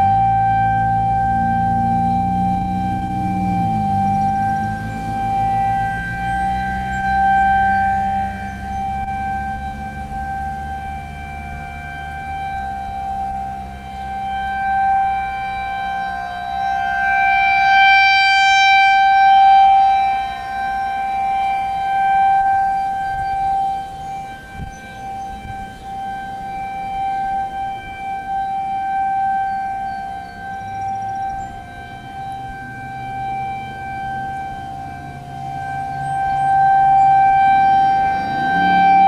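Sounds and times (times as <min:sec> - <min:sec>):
rotating tornado siren: 0:00.0 - 0:39.0.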